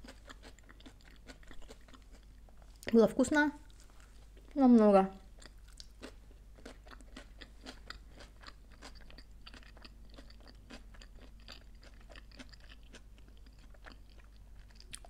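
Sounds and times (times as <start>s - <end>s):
person chewing crunchy chips: 0.0s - 2.9s, 5.3s - 15.0s.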